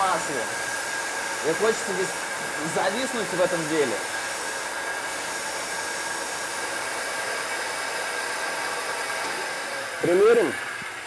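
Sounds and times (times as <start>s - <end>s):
stone-cutting saw whirring: 0.0s - 11.0s.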